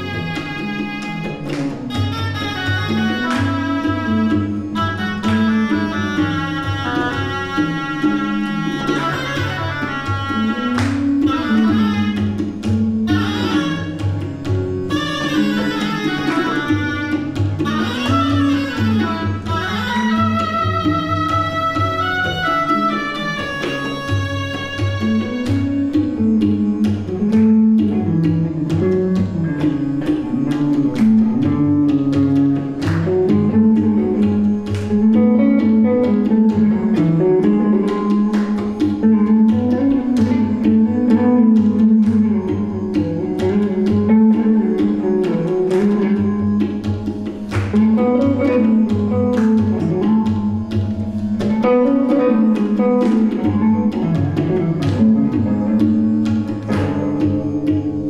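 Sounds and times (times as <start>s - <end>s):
electric guitar melody: 0.0s - 58.0s
tabla drumming: 0.0s - 58.0s.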